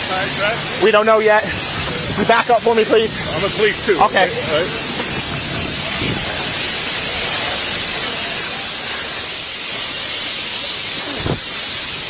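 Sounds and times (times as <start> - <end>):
gas escaping with loud hiss: 0.0 - 12.0.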